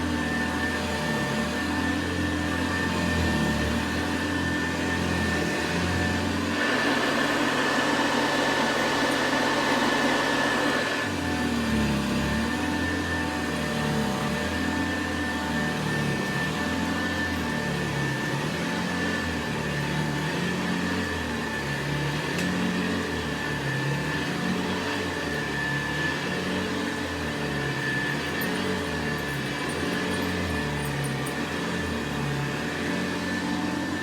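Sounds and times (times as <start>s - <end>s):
vacuum cleaner motor whining: 0.0s - 34.0s.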